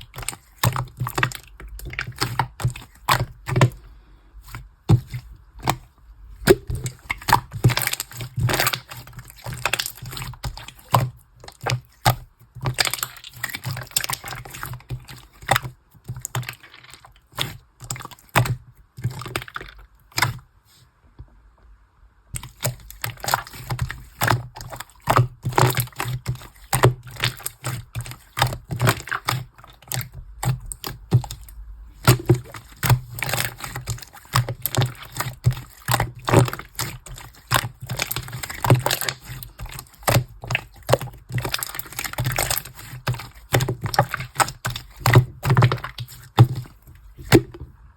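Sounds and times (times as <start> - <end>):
slime squishing and popping: 4.4 - 20.4, 22.4 - 47.6.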